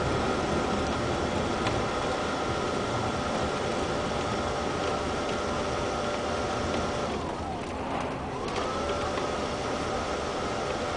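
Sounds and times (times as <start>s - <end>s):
engine and road noise: 0.0s - 10.9s.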